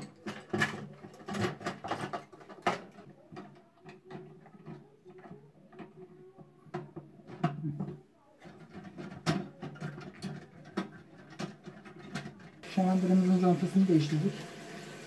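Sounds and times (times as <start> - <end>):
plastic clicks and knocks: 0.0 - 12.6.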